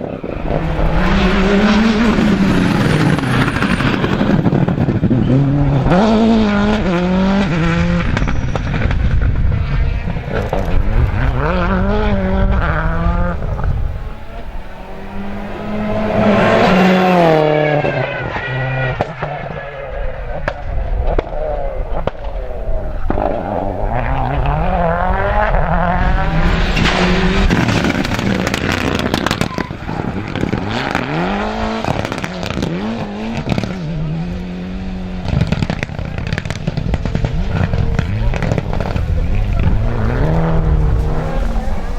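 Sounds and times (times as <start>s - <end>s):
engine cracks and pops: 0.0s - 14.7s, 17.8s - 41.9s
rally car engines revving: 0.0s - 41.9s.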